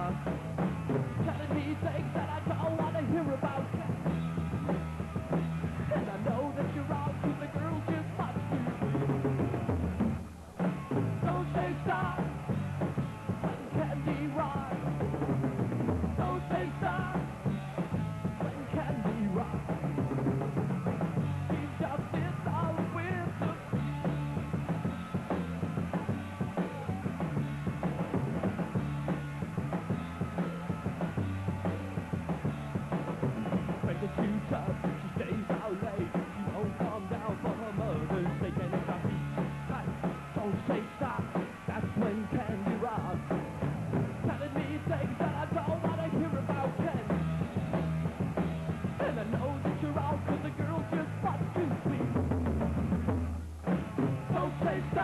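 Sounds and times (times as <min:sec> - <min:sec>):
drum kit: 0:00.0 - 0:55.0
electric bass: 0:00.0 - 0:55.0
electric guitars: 0:00.0 - 0:55.0.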